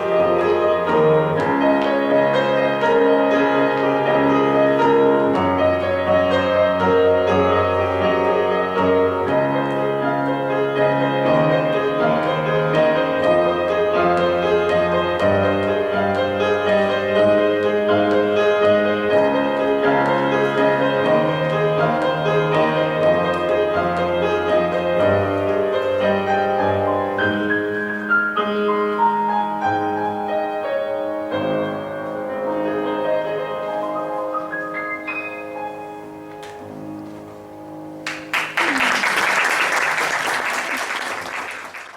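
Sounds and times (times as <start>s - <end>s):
slow piano chords: 0.0s - 38.7s.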